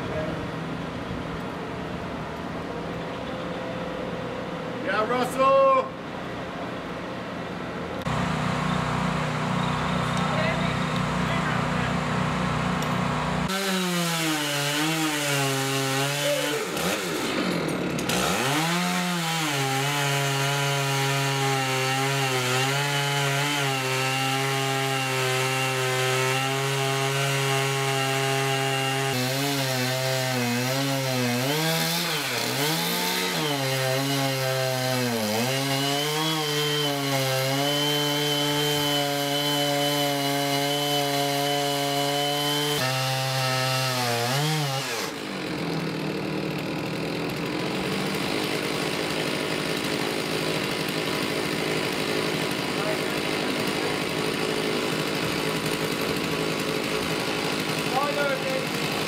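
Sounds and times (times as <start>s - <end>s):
chainsaw cutting wood: 8.0s - 59.0s.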